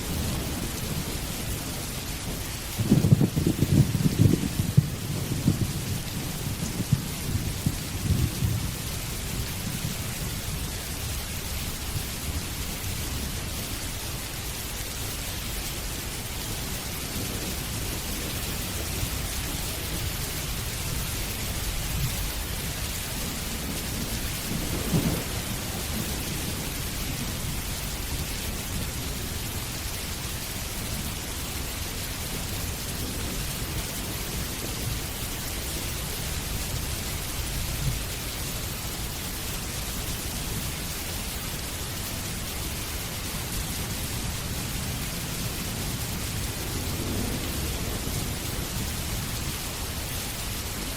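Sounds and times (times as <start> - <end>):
thunder rumbling: 0.0 - 13.5, 15.8 - 40.9, 43.1 - 50.9
heavy rain: 0.0 - 50.9.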